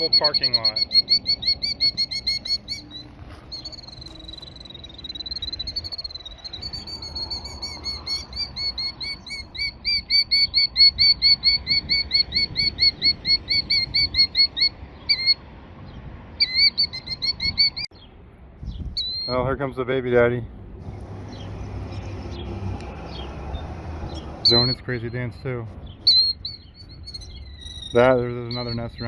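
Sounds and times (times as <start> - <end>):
bird alarm calls: 0.0 - 15.4, 16.4 - 18.1, 18.7 - 19.5, 20.9 - 29.0.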